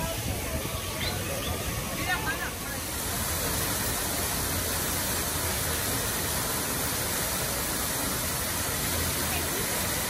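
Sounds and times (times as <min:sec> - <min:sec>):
rushing hiss: 0:00.0 - 0:10.0.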